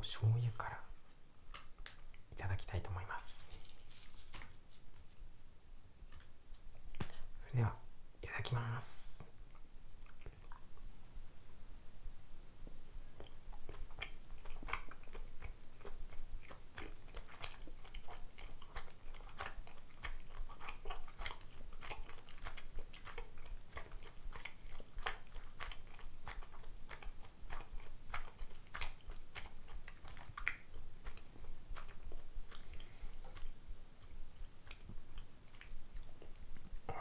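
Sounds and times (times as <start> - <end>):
person chewing with clicks and smacks: 0.3 - 5.2, 6.0 - 7.7, 8.3 - 10.9, 11.8 - 37.0.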